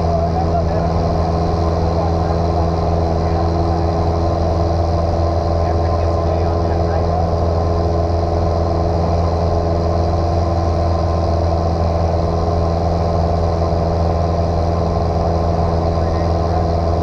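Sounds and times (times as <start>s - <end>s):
light aircraft engine drone: 0.0s - 17.0s.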